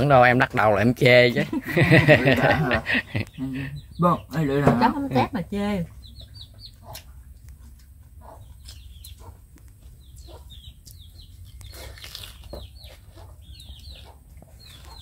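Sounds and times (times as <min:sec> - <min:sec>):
chickens peeping: 0:00.6 - 0:15.0.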